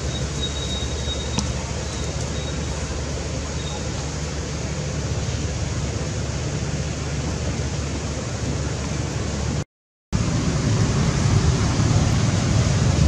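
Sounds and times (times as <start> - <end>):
steady rushing noise with rumble: 0.0 - 9.6, 10.2 - 13.0.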